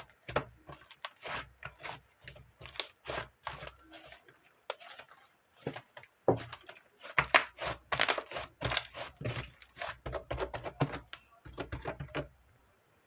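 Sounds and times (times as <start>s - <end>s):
crinkling rustling and knocking: 0.0s - 12.3s.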